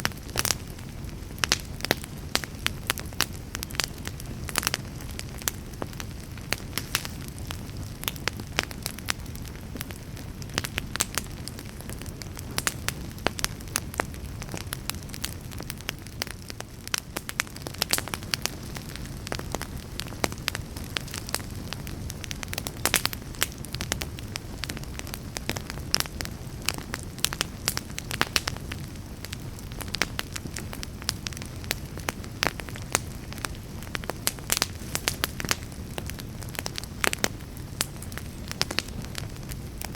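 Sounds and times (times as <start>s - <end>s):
fire crackling and popping: 0.0s - 39.9s
low roar of flames: 0.0s - 39.9s.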